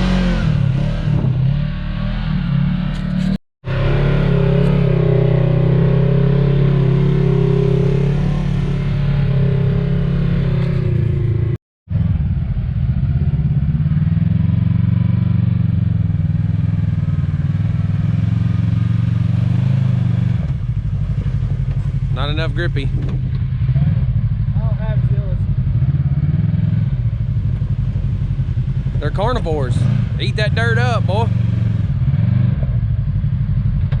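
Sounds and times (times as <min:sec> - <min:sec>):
utv engine running: 0:00.0 - 0:34.0.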